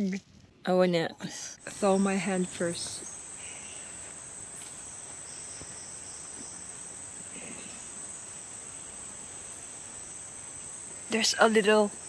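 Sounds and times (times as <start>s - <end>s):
high-pitched insect chorus: 1.6s - 12.0s.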